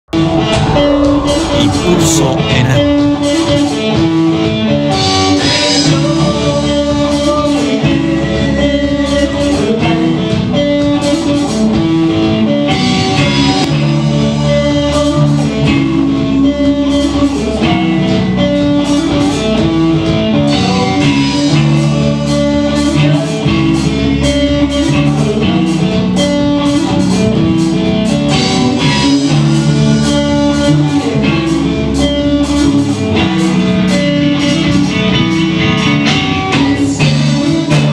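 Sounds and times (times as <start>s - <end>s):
electric guitars: 0.1s - 37.9s.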